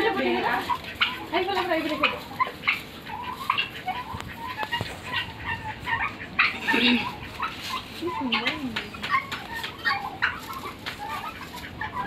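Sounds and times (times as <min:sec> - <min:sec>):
guineafowl and chickens calling: 0:00.0 - 0:12.0.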